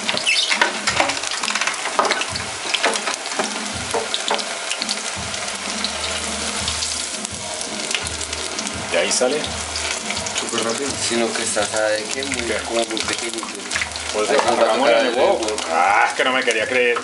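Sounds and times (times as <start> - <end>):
skimmer stirring frying strips: 0.0 - 17.0
tempura deep-frying sizzle: 0.0 - 17.0.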